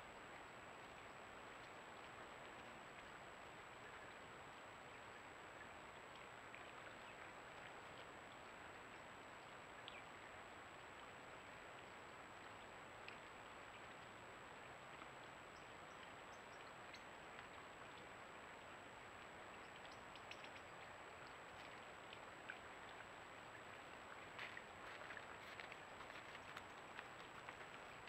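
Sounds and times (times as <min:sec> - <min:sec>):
faint high-pitched whine: 0:00.0 - 0:28.0
microphone hiss: 0:00.0 - 0:28.0.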